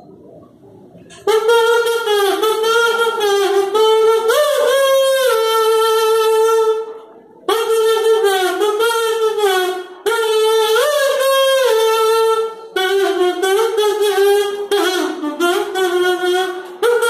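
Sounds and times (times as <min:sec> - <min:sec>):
comb kazoo buzzing melody: 0:01.1 - 0:17.0.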